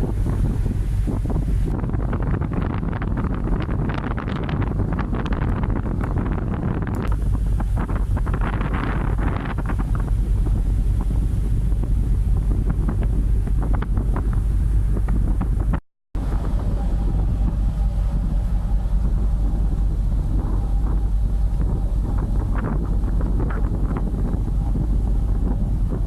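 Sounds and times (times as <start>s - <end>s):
low rumble: 0.0s - 26.0s
wind buffeting the microphone: 0.0s - 26.0s.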